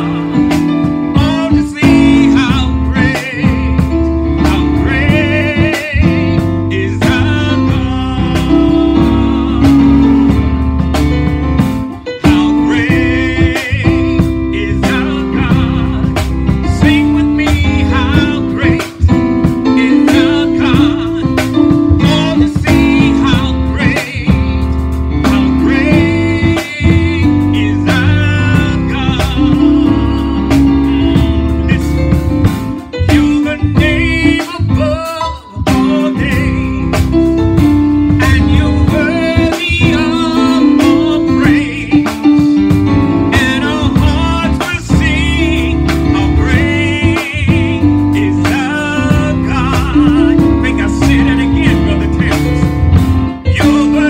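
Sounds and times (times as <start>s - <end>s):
gospel song with band: 0.0s - 54.0s.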